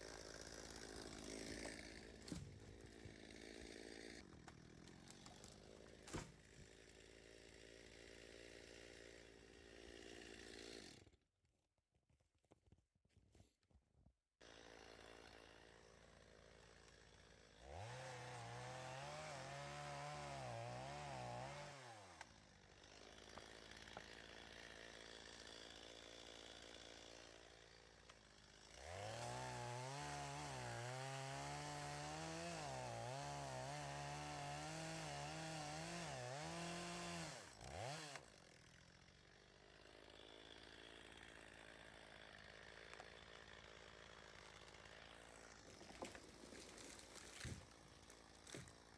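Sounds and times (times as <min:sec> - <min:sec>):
chainsaw revving and cutting wood: 0:00.0 - 0:11.2, 0:14.4 - 0:48.9.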